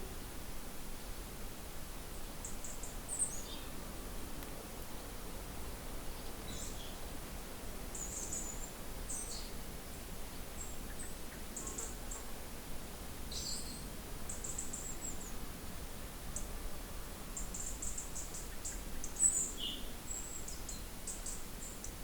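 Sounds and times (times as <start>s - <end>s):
steady low background noise: 0.0s - 22.0s.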